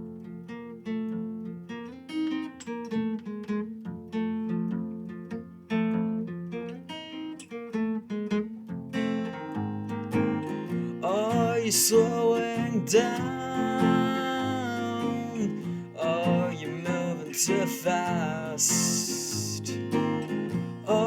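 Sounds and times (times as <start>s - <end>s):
acoustic guitar strummed and picked: 0.0s - 21.0s.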